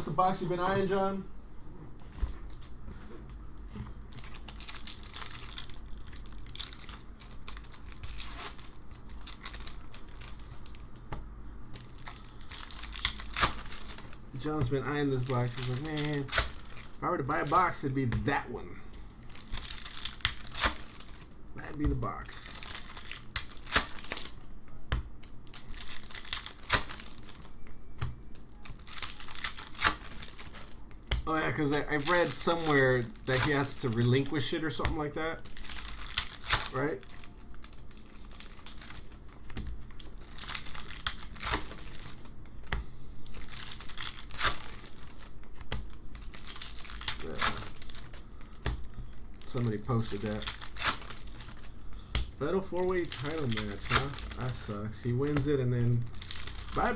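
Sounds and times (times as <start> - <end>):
wrapper crinkling and tearing: 4.0 - 11.0, 11.7 - 18.1, 19.3 - 21.4, 22.0 - 24.5, 25.4 - 42.6, 43.2 - 56.9.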